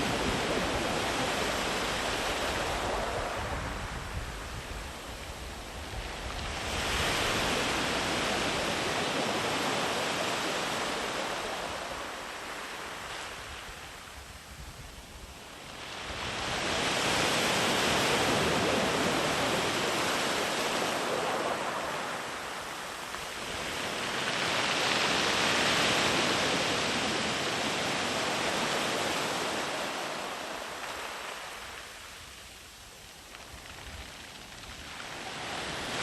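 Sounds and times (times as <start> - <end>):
sea waves washing up beach: 0.0 - 14.2, 15.5 - 36.0.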